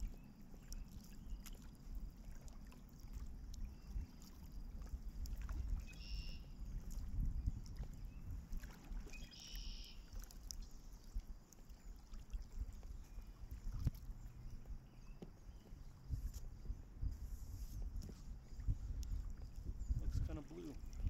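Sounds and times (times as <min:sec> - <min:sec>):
paddle splashing in water: 0:00.0 - 0:16.5, 0:17.1 - 0:21.0.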